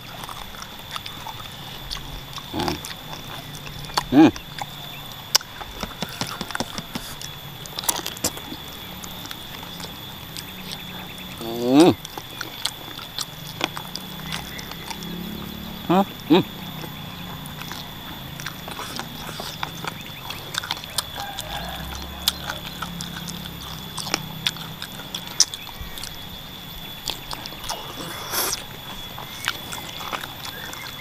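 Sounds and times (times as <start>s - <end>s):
wet chewing and lip smacking: 0.0s - 31.0s.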